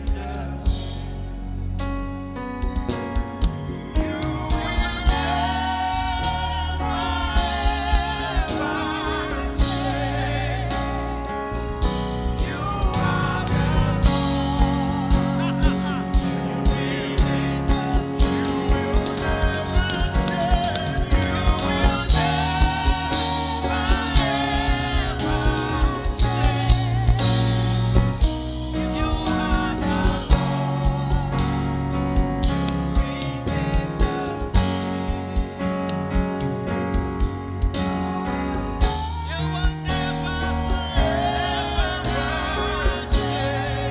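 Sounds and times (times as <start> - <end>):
band with bass and drums: 0.0 - 43.9
person singing with vibrato: 3.9 - 35.4, 38.2 - 43.9.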